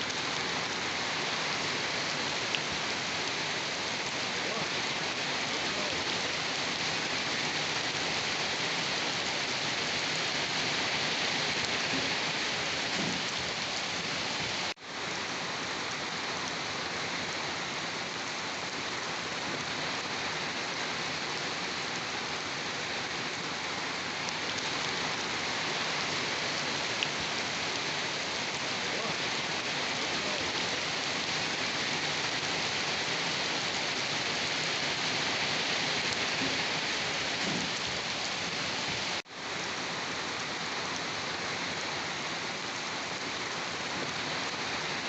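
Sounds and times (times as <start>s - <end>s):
dense rain hiss: 0.0s - 45.0s.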